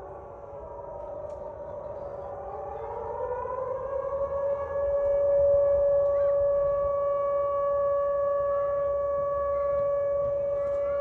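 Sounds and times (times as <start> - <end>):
lower siren tone gliding up: 0.0 - 11.0
siren steady tone: 0.0 - 11.0.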